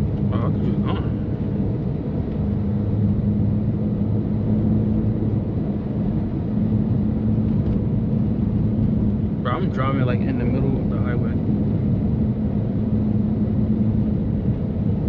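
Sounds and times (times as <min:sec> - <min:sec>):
car exhaust drone at cruise: 0:00.0 - 0:15.0
road and tyre noise: 0:00.0 - 0:15.0.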